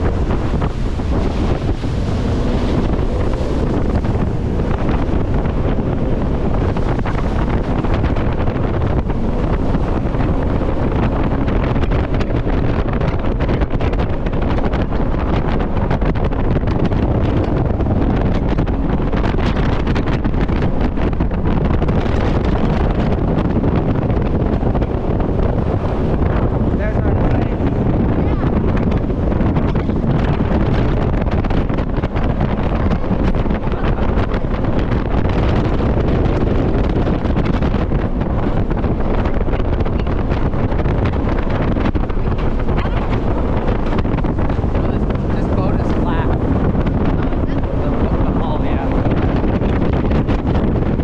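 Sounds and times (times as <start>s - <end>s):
boat engine: 0.0s - 51.0s
wind buffeting microphone: 0.0s - 51.0s.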